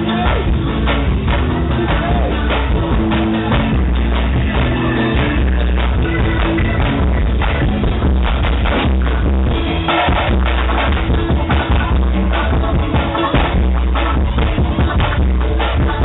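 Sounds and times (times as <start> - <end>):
live band music: 0.0 - 16.0
steady drum beat: 0.0 - 16.0.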